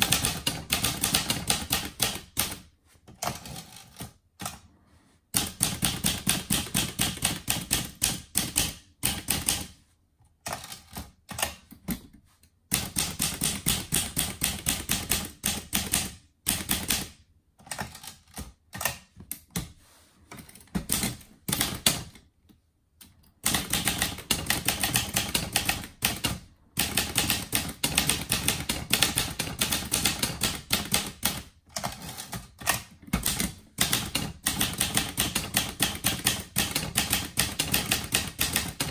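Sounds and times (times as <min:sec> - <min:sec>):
typewriter keystrokes: 0:00.0 - 0:04.6, 0:05.4 - 0:09.7, 0:12.7 - 0:19.6, 0:20.7 - 0:22.2, 0:23.4 - 0:38.9.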